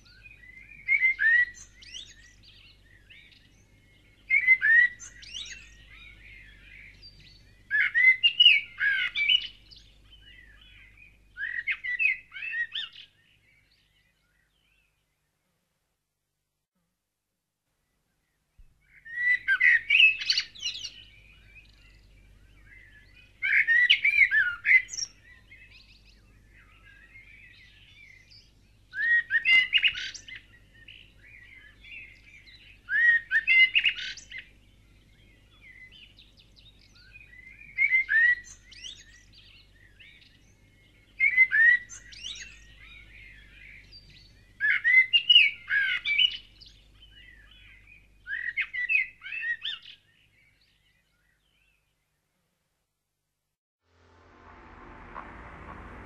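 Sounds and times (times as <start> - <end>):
songbird singing: 0.0 - 15.5, 17.8 - 52.4.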